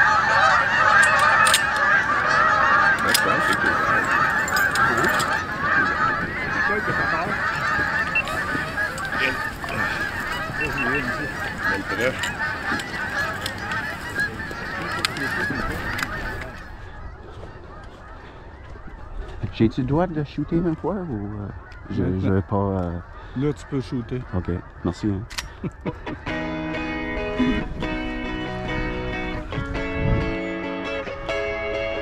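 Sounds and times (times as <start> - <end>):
flock of geese honking: 0.0 - 32.0.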